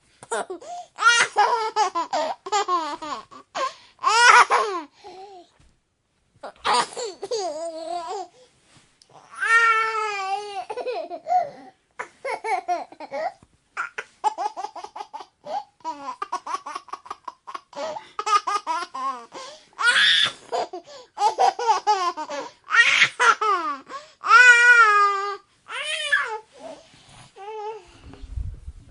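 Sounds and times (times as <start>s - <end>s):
baby laughing and giggling: 0.2s - 4.9s, 6.4s - 8.3s, 9.2s - 26.5s.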